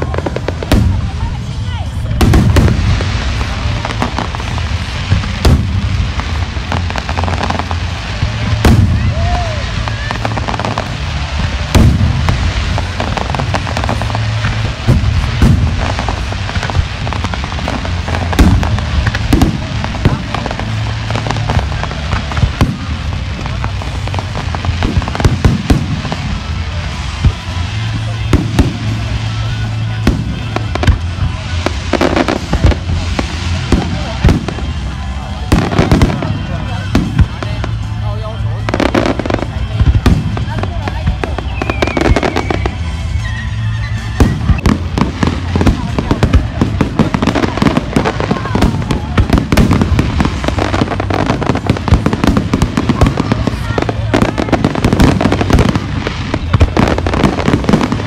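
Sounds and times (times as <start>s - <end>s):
fireworks booming: 0.0s - 58.0s
fireworks crackling pops: 0.0s - 58.0s
low rumble: 0.0s - 58.0s.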